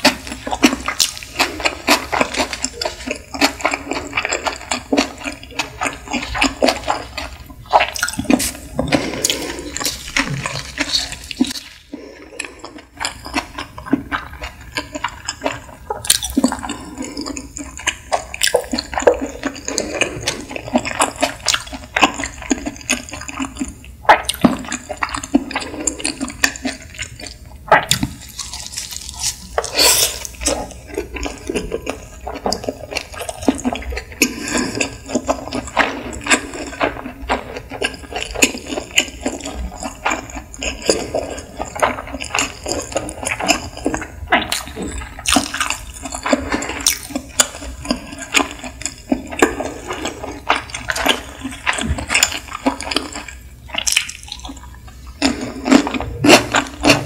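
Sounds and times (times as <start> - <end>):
chewing mouth noises: 0.0 - 57.0.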